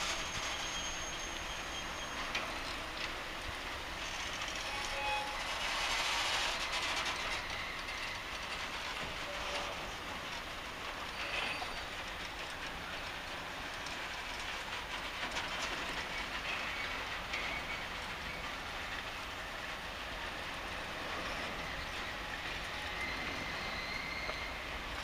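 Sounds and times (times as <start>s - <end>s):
train wheels rumbling on rails: 0.0s - 25.0s
wheels clicking over rail joints: 0.0s - 25.0s.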